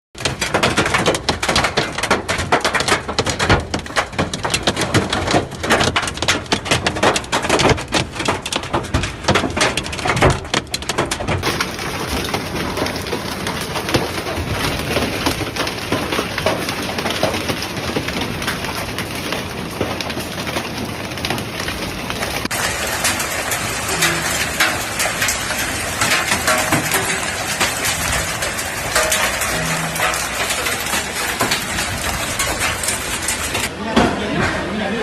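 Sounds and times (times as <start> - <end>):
hail clattering on hard surfaces: 0.2 - 33.7.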